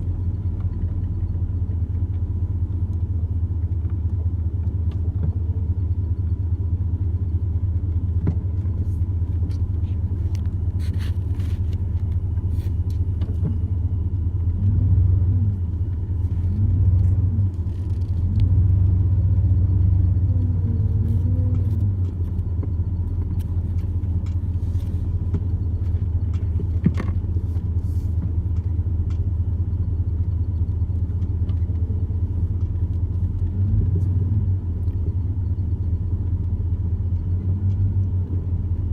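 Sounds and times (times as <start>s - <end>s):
steady low rumble: 0.0s - 38.9s.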